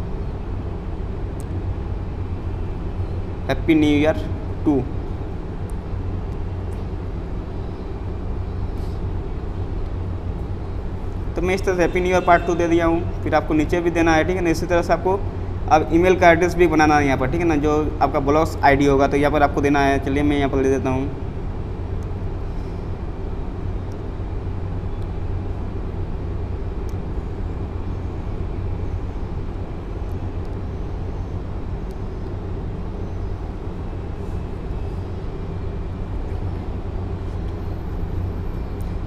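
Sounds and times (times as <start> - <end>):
low rumbling background noise: 0.0 - 39.0.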